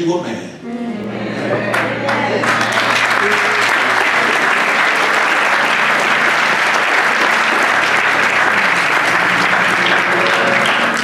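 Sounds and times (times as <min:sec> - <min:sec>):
congregation applauding: 0:01.7 - 0:11.0.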